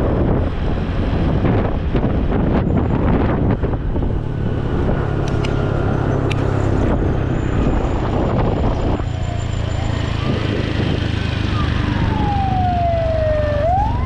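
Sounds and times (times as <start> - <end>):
wind buffeting microphone: 0.0 - 14.0
scooter engine hum: 1.5 - 14.0.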